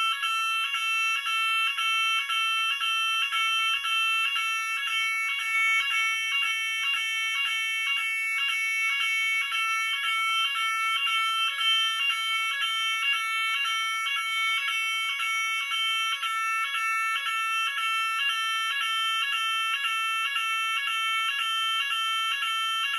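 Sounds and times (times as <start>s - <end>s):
two-pitch fire alarm tone: 0.0s - 22.9s.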